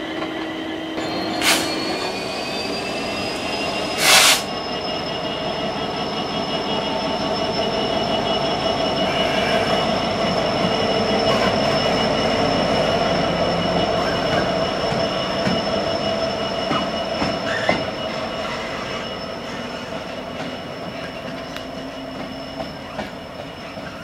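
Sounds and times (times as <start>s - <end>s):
diesel locomotive engine rumble: 0.0s - 24.0s
high-pitched wheel squeal: 0.2s - 24.0s.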